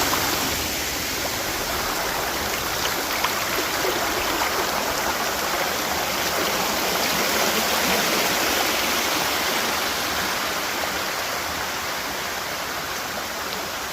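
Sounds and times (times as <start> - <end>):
waterfall roaring: 0.0 - 13.9.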